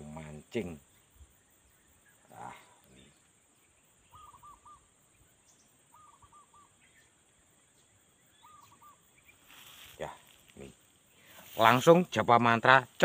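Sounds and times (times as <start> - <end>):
faint bird calls: 0.0 - 11.8
high insect buzz: 0.0 - 13.0.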